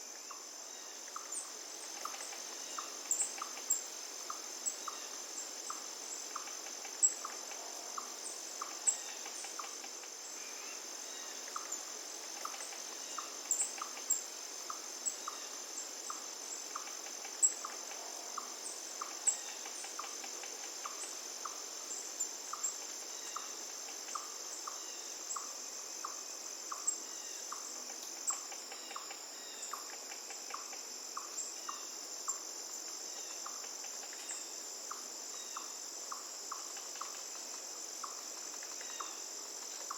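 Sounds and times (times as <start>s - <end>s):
high insect chorus: 0.0s - 39.9s
short insect chirp: 0.0s - 39.9s.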